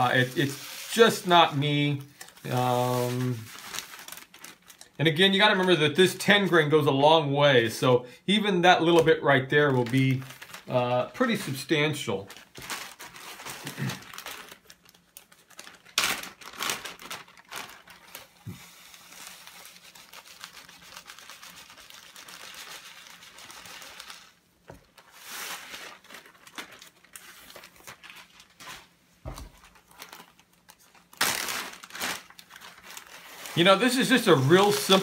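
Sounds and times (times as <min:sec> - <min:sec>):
dry ingredients rustling into tub: 0:00.0 - 0:05.7, 0:09.4 - 0:14.8, 0:15.6 - 0:30.4, 0:31.0 - 0:35.0
plastic bags crinkling: 0:00.0 - 0:06.2, 0:08.9 - 0:35.0.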